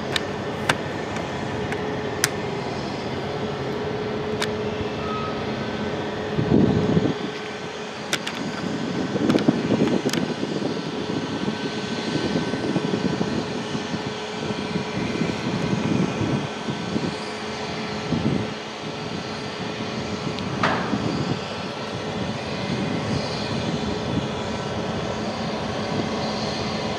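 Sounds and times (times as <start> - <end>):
passenger train rumbling: 0.0 - 26.9.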